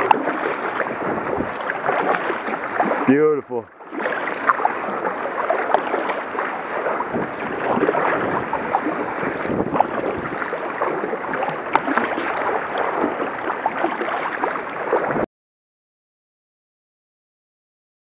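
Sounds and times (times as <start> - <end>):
paddle splashes: 0.0 - 15.3
water splashing around kayak: 0.0 - 15.3.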